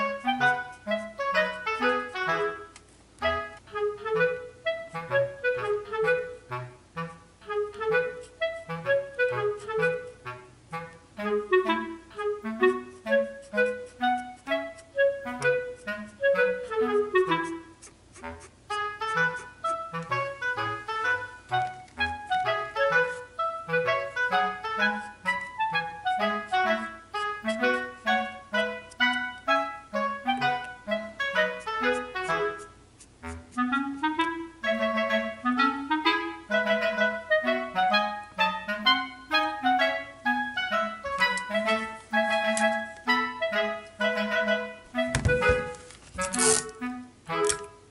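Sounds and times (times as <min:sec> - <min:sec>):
bouncy woodwind melody with bass: 0:00.0 - 0:47.9.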